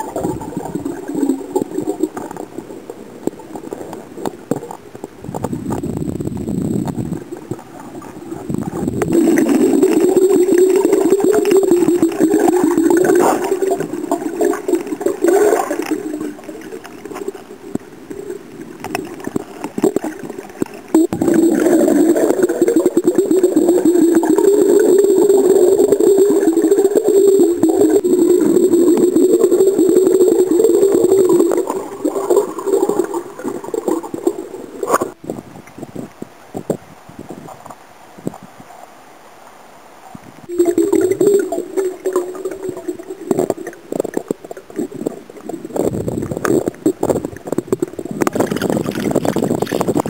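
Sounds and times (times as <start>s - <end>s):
water churning and gurgling underwater: 0.0s - 37.8s, 40.4s - 50.0s.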